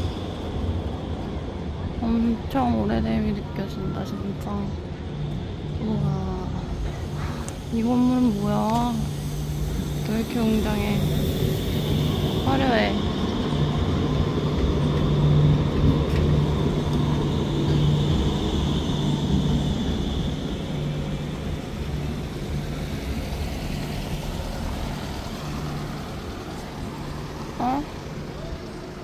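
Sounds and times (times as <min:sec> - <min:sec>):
electric tram passing: 0:00.0 - 0:29.0.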